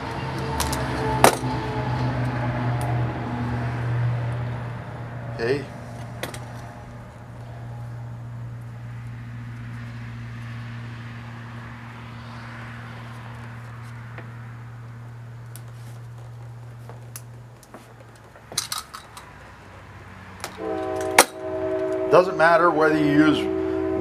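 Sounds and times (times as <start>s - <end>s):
low hum: 0.0s - 22.1s.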